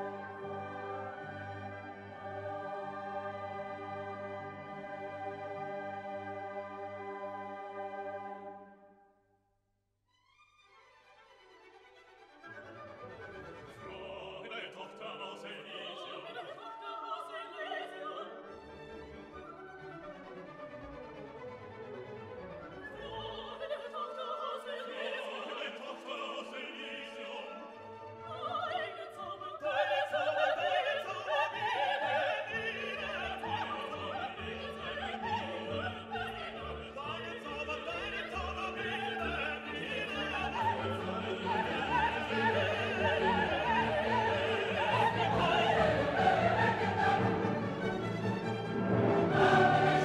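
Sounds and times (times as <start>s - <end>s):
orchestral music with operatic singing: 0.0s - 9.0s, 10.9s - 50.0s.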